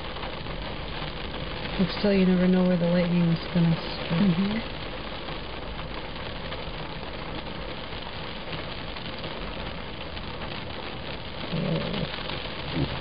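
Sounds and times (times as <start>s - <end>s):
heavy rain on pavement and cars: 0.0s - 13.0s.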